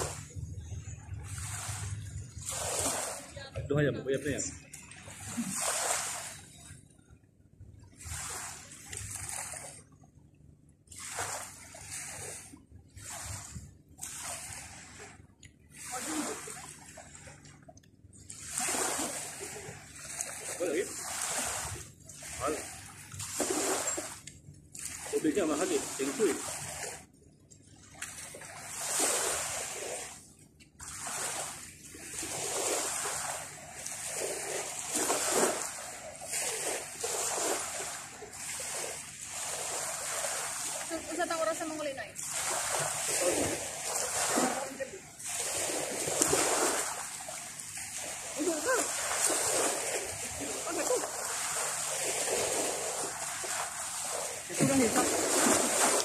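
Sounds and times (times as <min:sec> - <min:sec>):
sea water splashing at shore: 0:00.0 - 0:00.4, 0:01.1 - 0:06.8, 0:07.9 - 0:10.0, 0:10.8 - 0:56.0.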